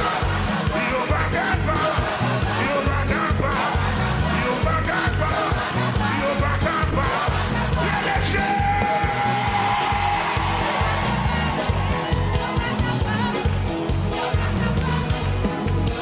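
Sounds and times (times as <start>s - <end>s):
congregation singing and shouting: 0.0s - 16.0s
drum beat: 0.0s - 16.0s.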